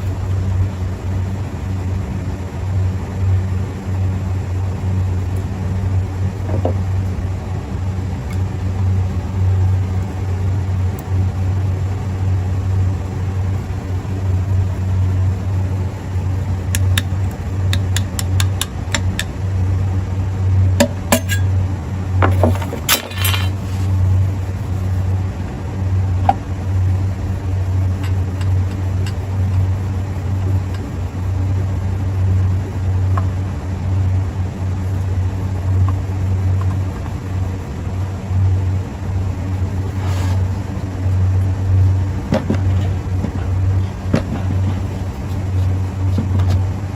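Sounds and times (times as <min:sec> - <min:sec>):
machinery humming: 0:00.0 - 0:46.9.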